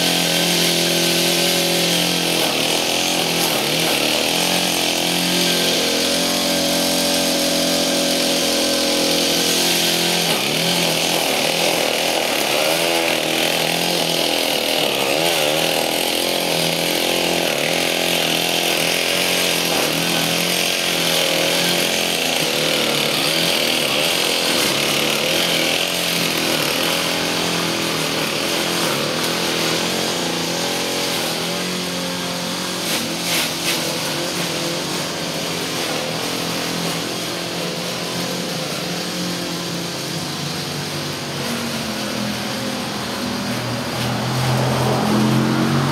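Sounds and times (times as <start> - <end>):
gas string trimmer running: 0.0 - 45.9.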